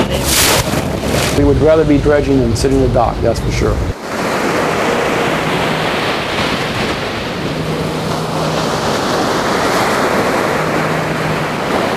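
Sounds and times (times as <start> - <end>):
ocean surf breaking on beach: 0.0 - 1.9, 3.9 - 11.9.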